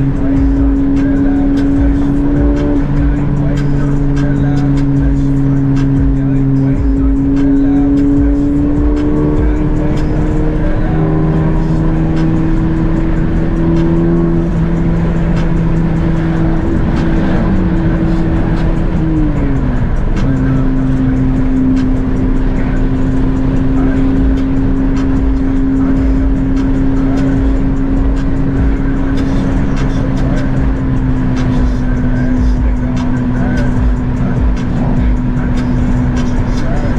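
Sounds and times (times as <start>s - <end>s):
car engine running: 0.0s - 36.9s
road and wind noise: 0.0s - 36.9s.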